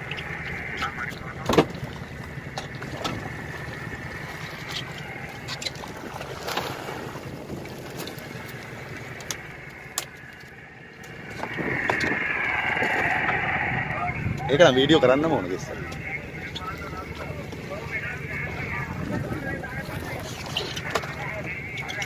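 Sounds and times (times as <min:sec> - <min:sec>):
boat engine running: 0:00.0 - 0:22.0
wind: 0:00.0 - 0:22.0.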